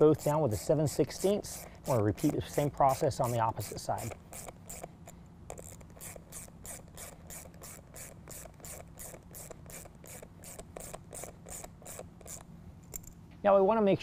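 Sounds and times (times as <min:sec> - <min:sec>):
hand ratchet clicking: 0:00.0 - 0:13.2.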